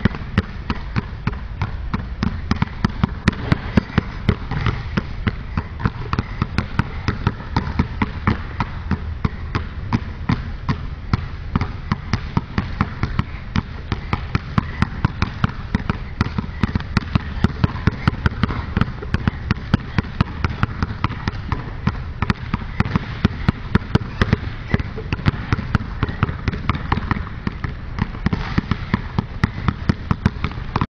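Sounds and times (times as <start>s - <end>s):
basketballs bouncing on court floor: 0.0s - 30.9s.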